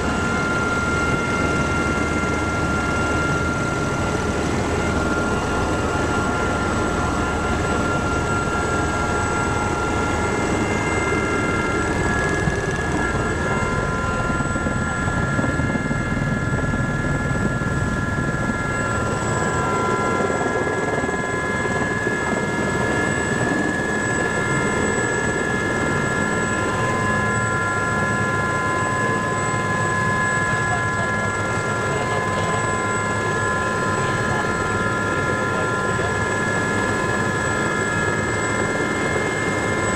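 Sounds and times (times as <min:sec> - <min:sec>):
helicopter engine and rotors rushing: 0:00.0 - 0:39.9.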